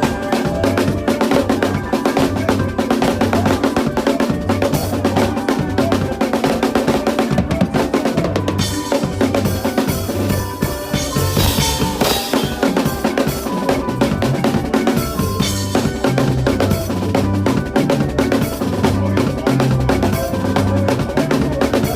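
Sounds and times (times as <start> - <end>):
band music: 0.0 - 21.9
drum kit playing fast groove: 0.0 - 21.9.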